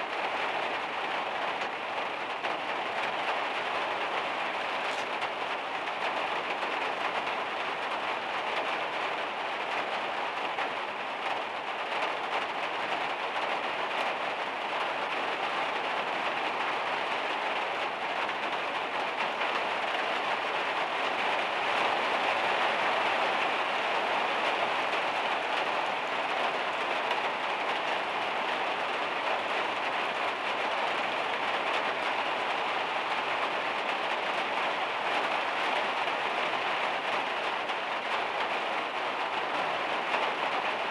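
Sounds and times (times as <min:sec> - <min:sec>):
heavy rain on metal roof: 0:00.0 - 0:40.9.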